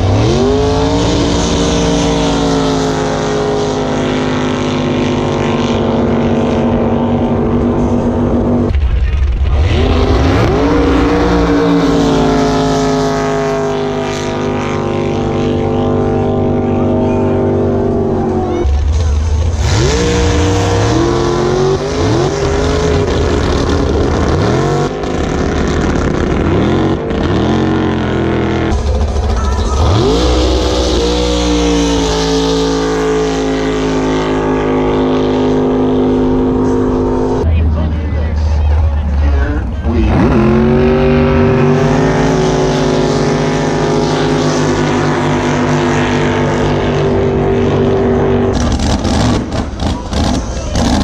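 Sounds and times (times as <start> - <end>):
boat engine at full throttle: 0.0 - 51.0.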